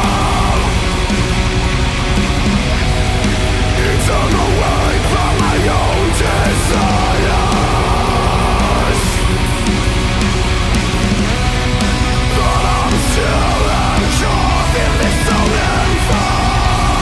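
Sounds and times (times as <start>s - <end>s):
black metal band playing: 0.0s - 17.0s.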